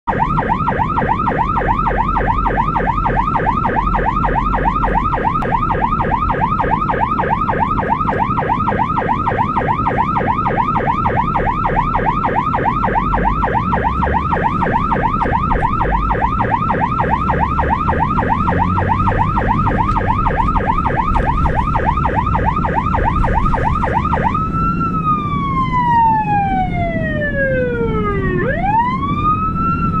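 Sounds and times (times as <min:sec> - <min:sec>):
ambulance siren: 0:00.0 - 0:30.0
low rumble: 0:00.2 - 0:30.0.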